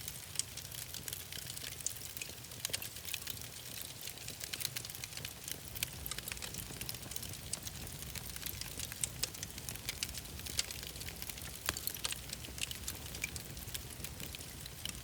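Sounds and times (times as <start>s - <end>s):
wood fire crackling: 0.0s - 15.0s
low rumble of flames: 0.1s - 15.0s.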